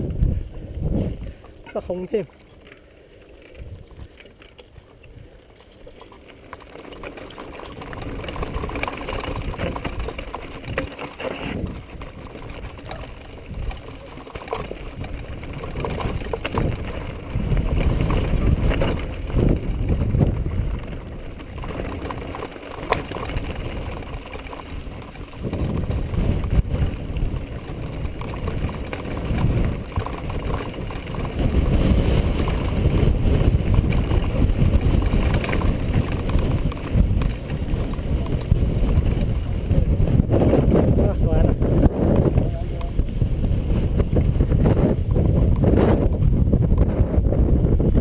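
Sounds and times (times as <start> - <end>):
wind rumbling on microphone: 0.0 - 2.7, 3.4 - 48.0
bike knocking over stones: 0.0 - 48.0
bike tyres and frame clattering on rocks: 0.0 - 48.0.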